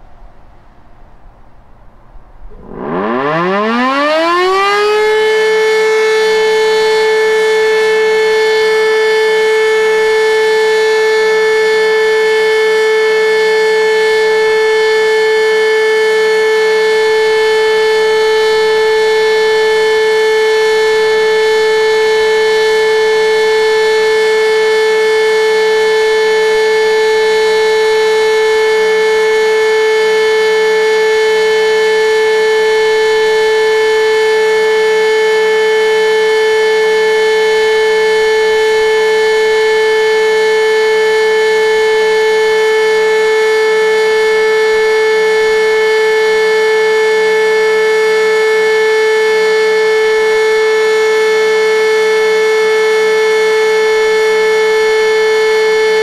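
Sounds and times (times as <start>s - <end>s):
electric motor siren wailing: 2.5s - 56.0s.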